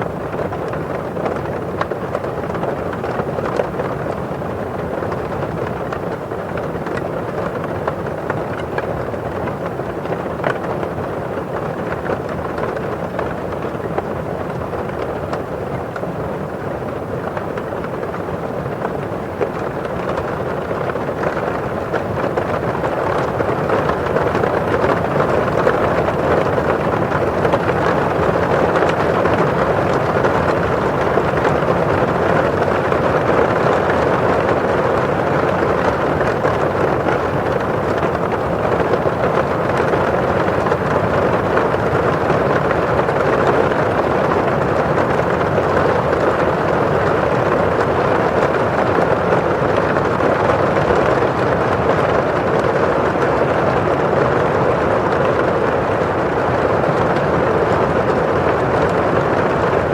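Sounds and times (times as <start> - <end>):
rain on a windowpane: 0.0 - 59.9.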